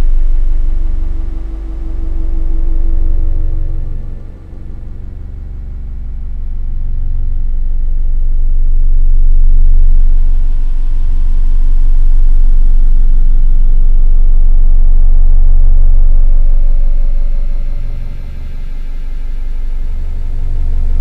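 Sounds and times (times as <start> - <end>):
synthesized bass drone: 0.0 - 21.0.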